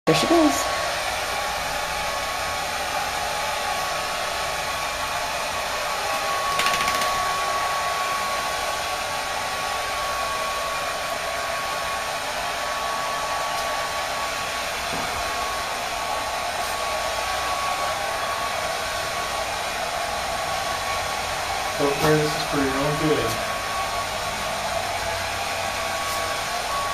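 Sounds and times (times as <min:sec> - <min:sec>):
hair dryer running: 0:00.1 - 0:26.9.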